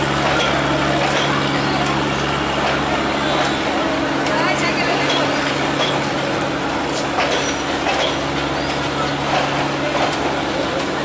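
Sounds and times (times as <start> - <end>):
crowd chatter: 0.0 - 11.0
diesel locomotive humming: 0.0 - 11.0.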